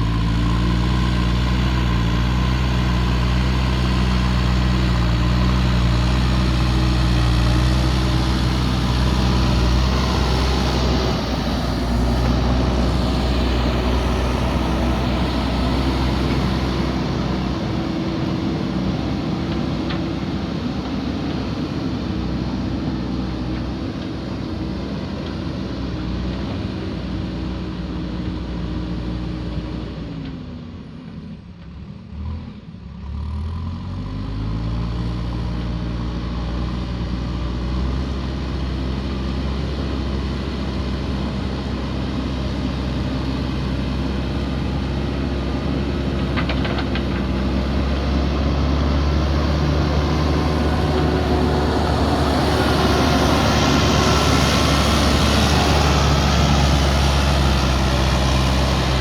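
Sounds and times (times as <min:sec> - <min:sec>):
diesel engine running: 0:00.0 - 0:31.3, 0:35.2 - 0:59.0.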